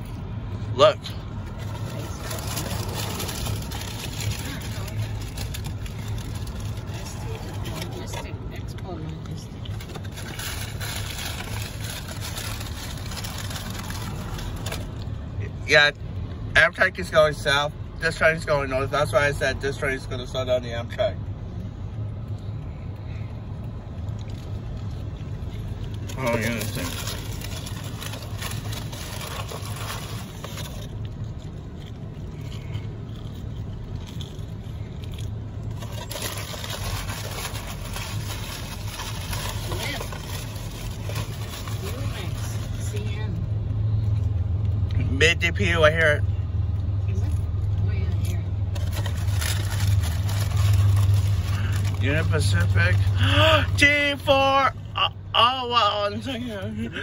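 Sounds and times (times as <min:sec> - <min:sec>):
car engine hum: 0:00.0 - 0:57.0
road noise hiss: 0:00.0 - 0:57.0.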